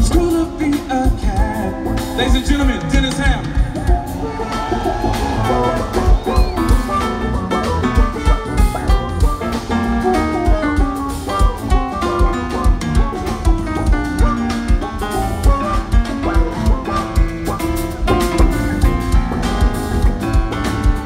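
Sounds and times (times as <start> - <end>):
jazz-funk band playing: 0.0 - 21.0.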